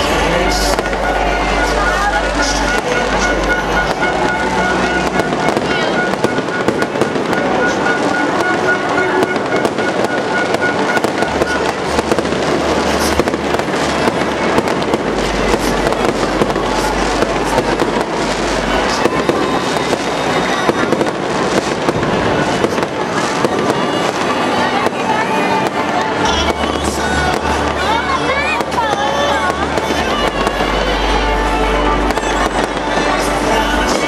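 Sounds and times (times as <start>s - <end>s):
fireworks crackling and banging: 0.0s - 34.0s
low rumble: 0.0s - 34.0s.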